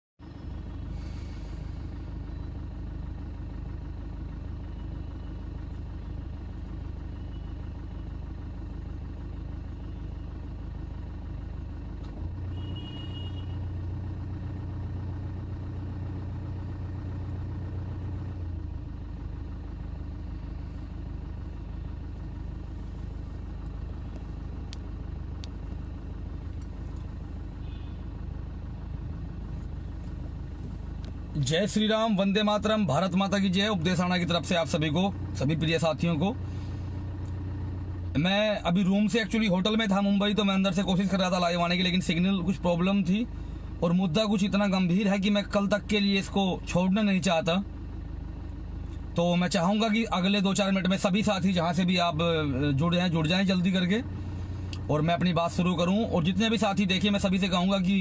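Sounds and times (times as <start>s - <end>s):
vehicle engine rumbling: 0.2s - 58.0s.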